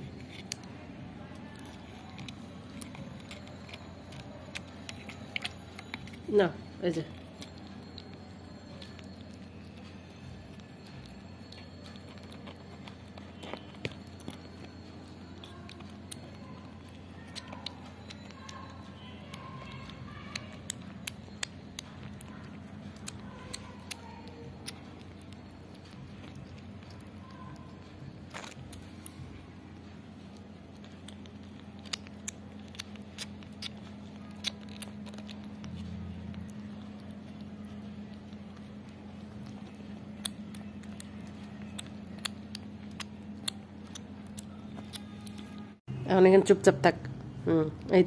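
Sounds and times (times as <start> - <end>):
kitten sucking from bottle: 0.0 - 45.4
steady low hum: 0.0 - 48.0.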